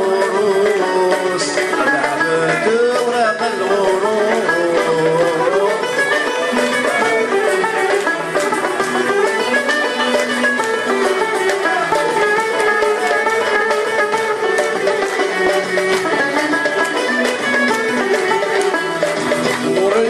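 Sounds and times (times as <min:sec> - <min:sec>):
banjo: 0:00.0 - 0:20.0
frame drum and darbouka beat: 0:00.0 - 0:20.0
violin: 0:00.0 - 0:20.0.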